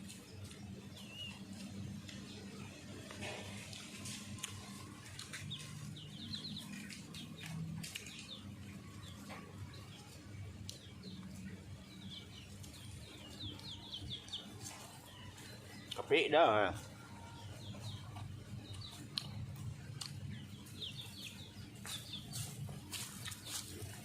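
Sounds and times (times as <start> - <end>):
small bird chirping: 0.1 - 1.7, 4.0 - 24.0.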